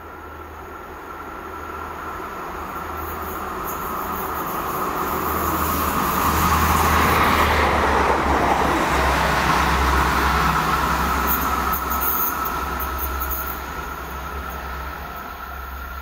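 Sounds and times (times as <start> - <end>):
train passing wheel and rail noise: 0.0 - 16.0.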